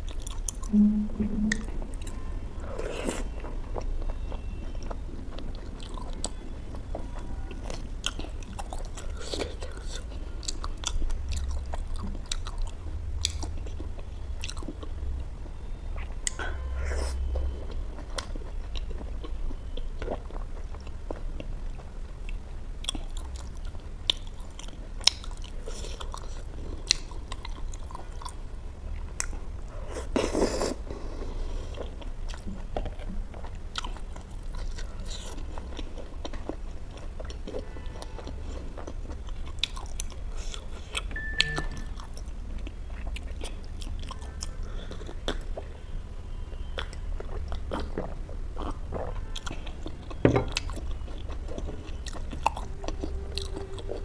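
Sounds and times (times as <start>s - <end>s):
close chewing with wet mouth clicks: 0.0s - 0.7s, 2.8s - 54.0s
steady low hum: 0.0s - 54.0s.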